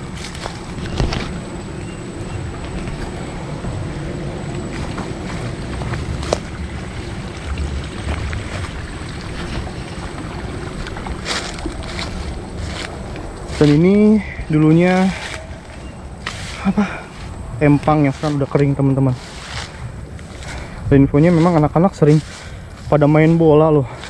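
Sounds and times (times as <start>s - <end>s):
footsteps through grass: 0.0s - 24.0s
wind on microphone: 0.0s - 24.0s.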